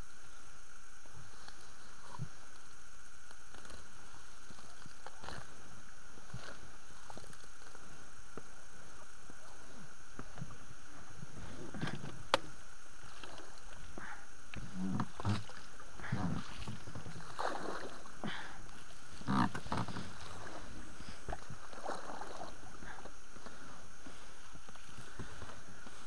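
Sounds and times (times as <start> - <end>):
vegetation swishing against boat: 3.4 - 26.0.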